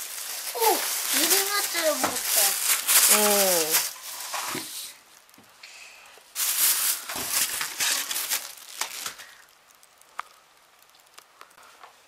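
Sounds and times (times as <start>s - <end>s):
plastic bags crinkling: 0.0s - 5.3s, 6.3s - 11.2s.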